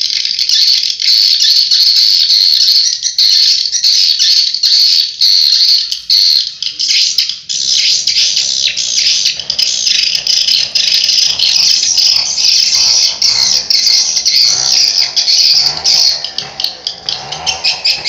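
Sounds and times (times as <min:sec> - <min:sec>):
swiftlet chirps from speakers: 0:02.7 - 0:18.0.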